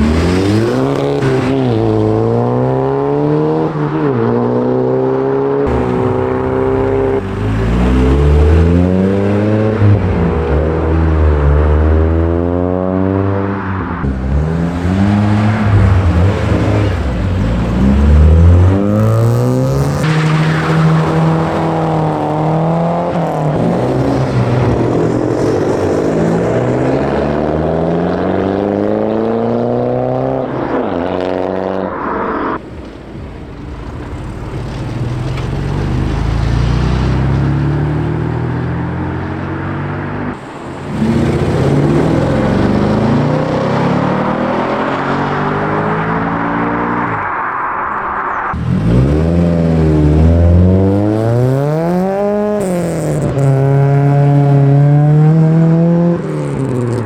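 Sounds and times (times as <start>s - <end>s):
cars driving past revving: 0.0s - 57.0s.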